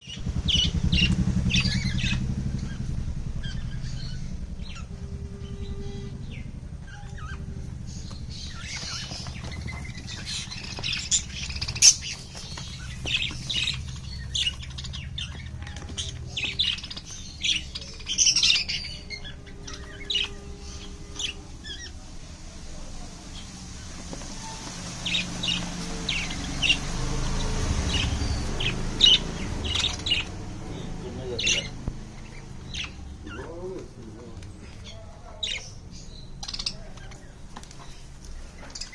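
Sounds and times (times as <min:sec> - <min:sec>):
birds squawking and chirping: 0:00.0 - 0:38.9
steady low hum: 0:00.0 - 0:38.9.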